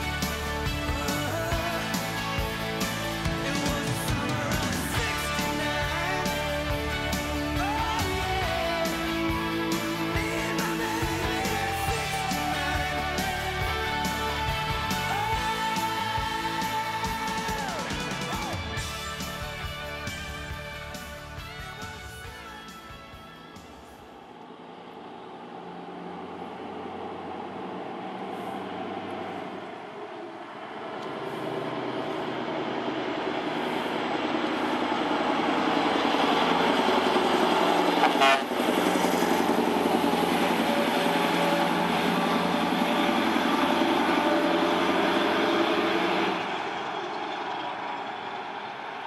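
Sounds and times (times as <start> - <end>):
diesel truck engine: 0.0 - 22.4, 23.6 - 49.0.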